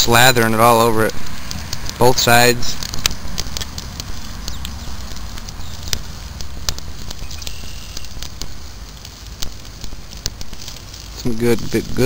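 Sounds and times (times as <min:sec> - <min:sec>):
fire crackling with pops: 0:00.0 - 0:12.0
steady low rumble: 0:00.0 - 0:12.0.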